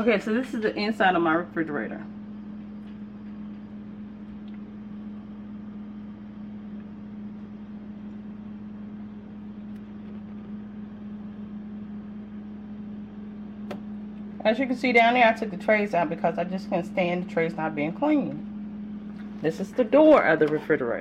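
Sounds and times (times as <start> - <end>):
refrigerator humming: 0.0 - 21.0.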